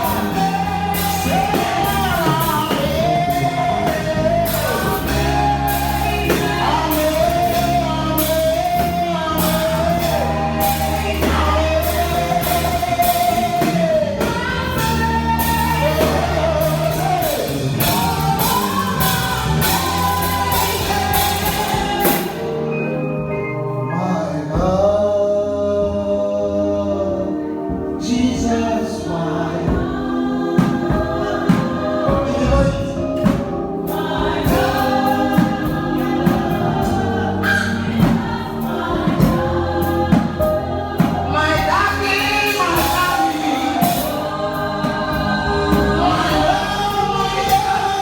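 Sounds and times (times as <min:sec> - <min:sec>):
gospel band with drums and bass: 0:00.0 - 0:48.0.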